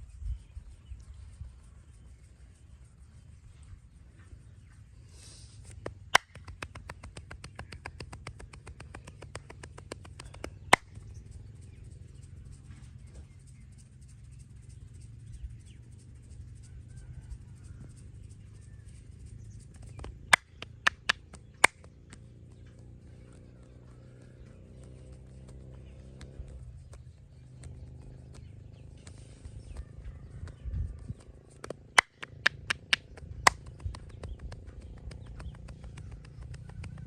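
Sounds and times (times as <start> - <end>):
low steady hum: 0.0 - 37.0
fast light massage taps: 5.6 - 37.0.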